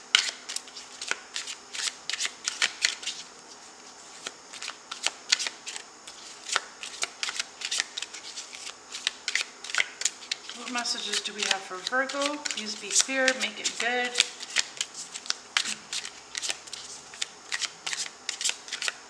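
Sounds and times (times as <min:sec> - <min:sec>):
cards being shuffled: 0:00.1 - 0:19.0.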